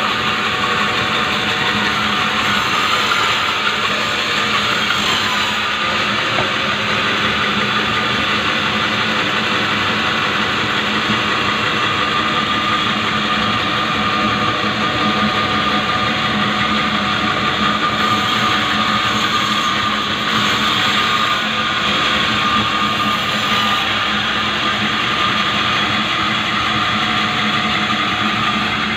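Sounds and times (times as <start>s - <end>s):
sawmill saw running: 0.0s - 28.9s.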